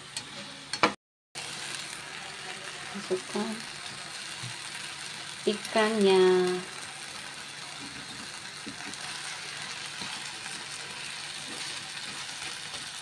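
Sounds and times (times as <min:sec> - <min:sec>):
chili paste sizzling in oil: 0:01.4 - 0:13.0.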